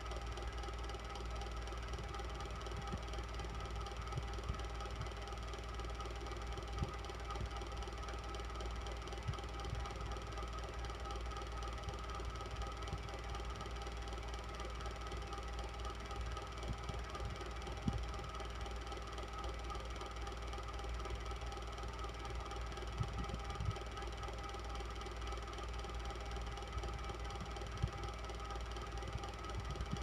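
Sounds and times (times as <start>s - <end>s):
electric fan whirring: 0.0s - 30.0s.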